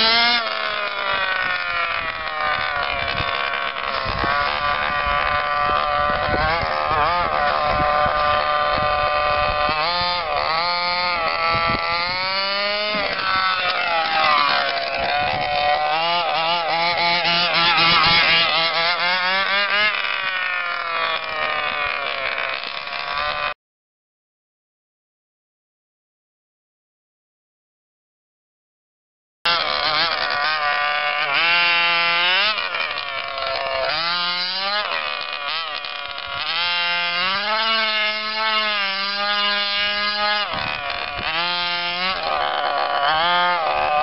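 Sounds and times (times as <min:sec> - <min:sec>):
rc car engine revving: 0:00.0 - 0:23.6, 0:29.5 - 0:44.0.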